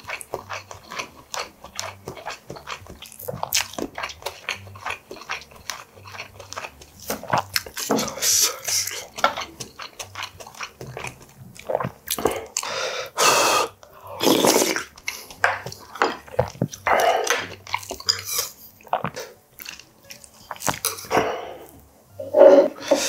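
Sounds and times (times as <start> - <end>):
chewing: 0.0 - 12.7, 13.8 - 21.8
slurping soup: 0.0 - 23.0.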